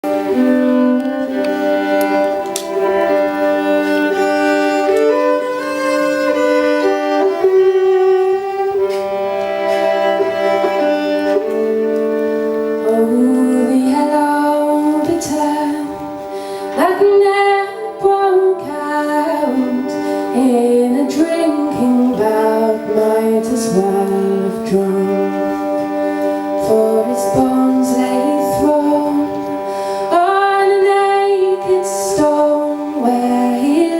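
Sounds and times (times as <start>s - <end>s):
slow folk melody: 0.0s - 33.9s.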